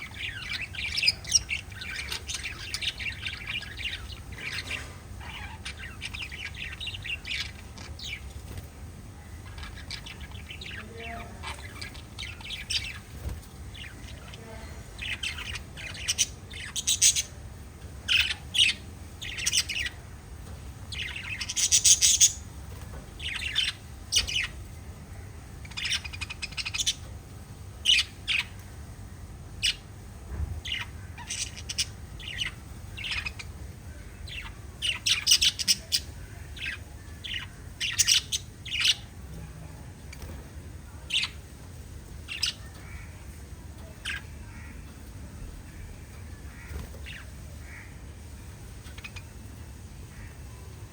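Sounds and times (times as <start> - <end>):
faint low hum: 0.0 - 50.9
parrots chirping and tweeting: 0.0 - 50.9.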